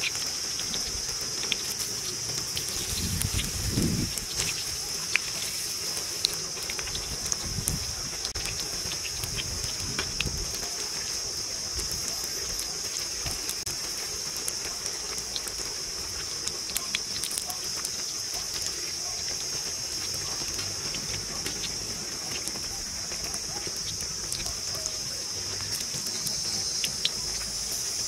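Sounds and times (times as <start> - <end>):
constant high-pitched whine: 0.0 - 28.0
food deep-frying in hot oil: 0.0 - 28.0.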